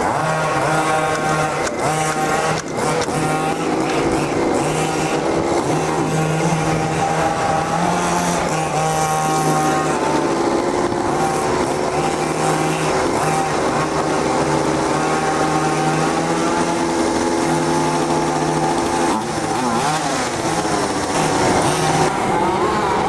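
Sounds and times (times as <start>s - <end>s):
small two-stroke engine running: 0.0s - 23.0s.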